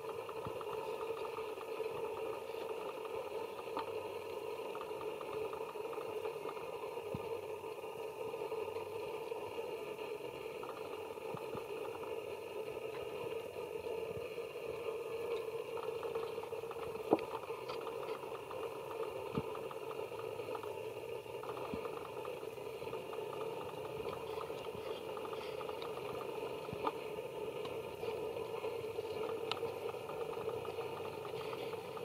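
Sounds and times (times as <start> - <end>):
steady motor hum: 0.0 - 32.0.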